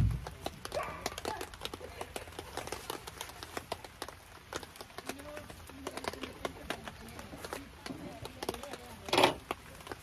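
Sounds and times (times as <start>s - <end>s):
rain dripping: 0.0s - 10.0s.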